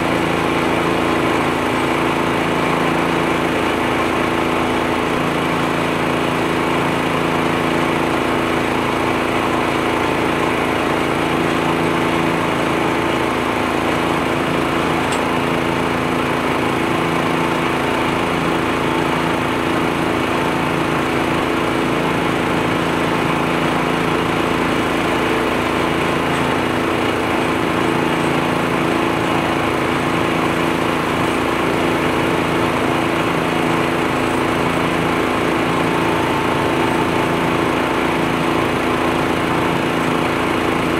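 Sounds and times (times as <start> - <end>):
leaf blower air rush: 0.0 - 40.9
tractor engine drone: 0.0 - 40.9.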